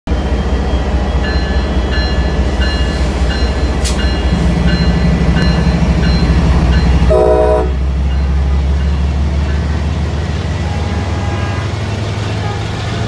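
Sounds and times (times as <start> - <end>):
diesel locomotive engine rumble: 0.1 - 13.0
locomotive bell ringing: 0.8 - 13.0.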